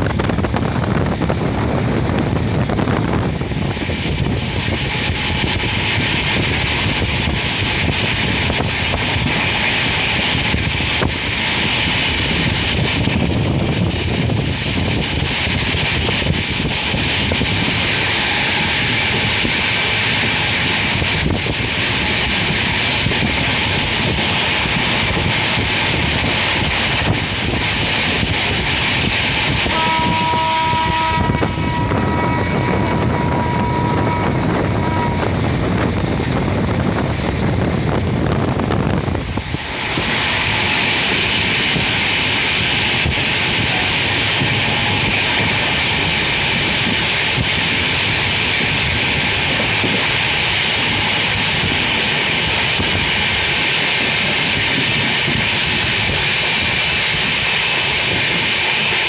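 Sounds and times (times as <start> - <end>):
wheel and rail noise: 0.0 - 59.0
wind rushing past microphone: 0.0 - 59.0.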